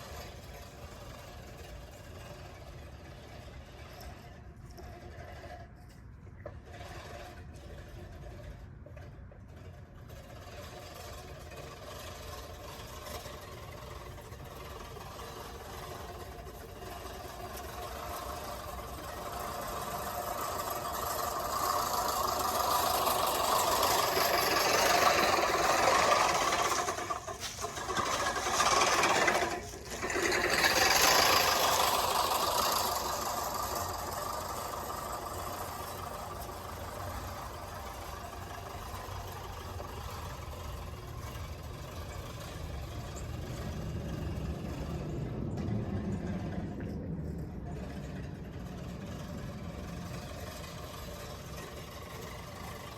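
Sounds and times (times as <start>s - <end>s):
reel lawn mower whirring: 0.0s - 52.9s.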